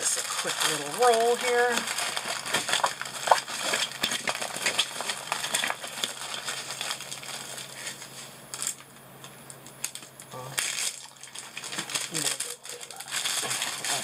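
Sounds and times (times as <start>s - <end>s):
plastic cover crinkling: 0.0s - 14.0s.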